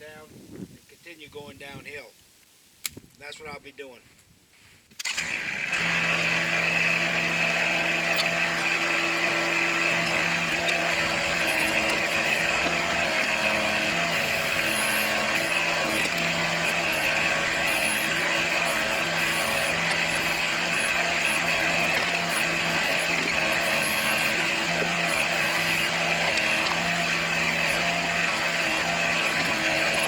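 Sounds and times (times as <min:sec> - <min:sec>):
tractor diesel engine running: 0:05.1 - 0:30.0.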